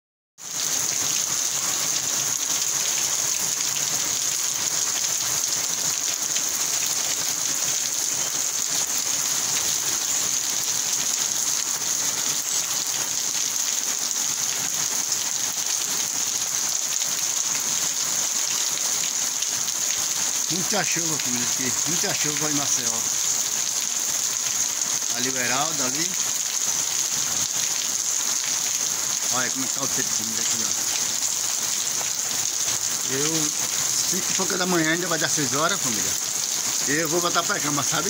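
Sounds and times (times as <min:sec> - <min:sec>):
heavy rain on pavement and roofs: 0:00.4 - 0:38.0.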